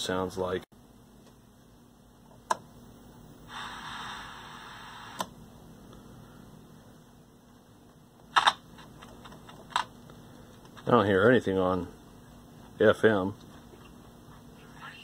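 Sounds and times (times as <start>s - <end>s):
faint radio speaker hiss: 2.5s - 15.0s.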